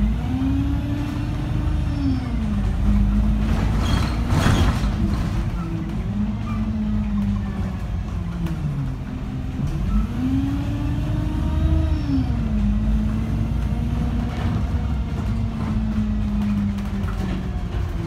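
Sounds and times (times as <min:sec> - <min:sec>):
bus engine pulling away: 0:00.0 - 0:18.0.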